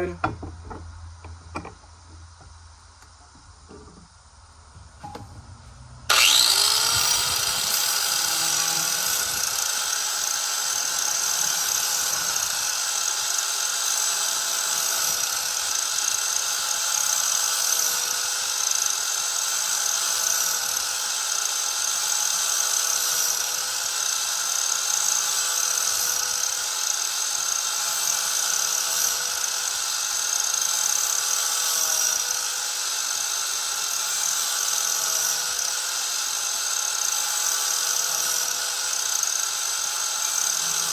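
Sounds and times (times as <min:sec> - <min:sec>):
angle grinder grinding steel: 0:06.1 - 0:40.9.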